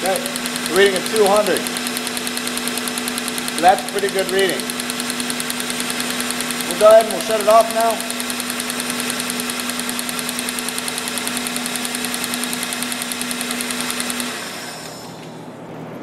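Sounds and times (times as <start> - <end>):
car engine idling with ticking: 0.0 - 14.3.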